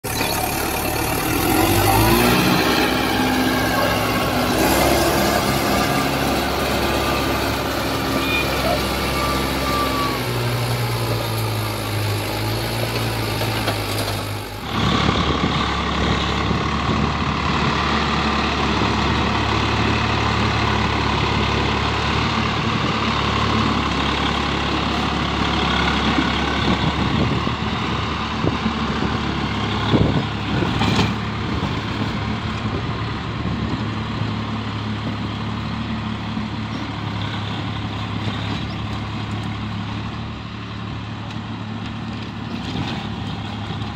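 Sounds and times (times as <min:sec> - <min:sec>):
tractor diesel engine under load: 0:00.0 - 0:43.9
tractor engine driving rotavator: 0:00.0 - 0:43.9.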